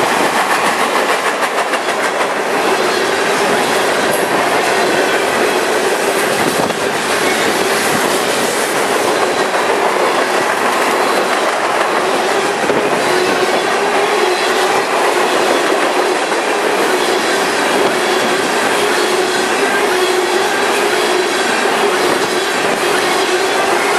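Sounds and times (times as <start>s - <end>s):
steel wheels running on rails: 0.0s - 23.9s.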